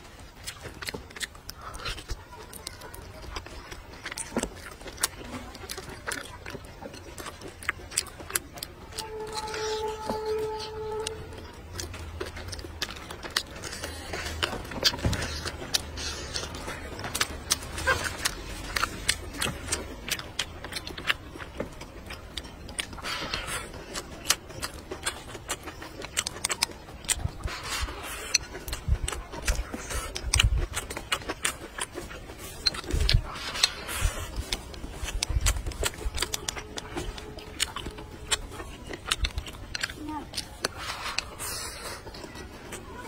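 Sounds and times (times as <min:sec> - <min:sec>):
person chewing: 0:00.0 - 0:43.0.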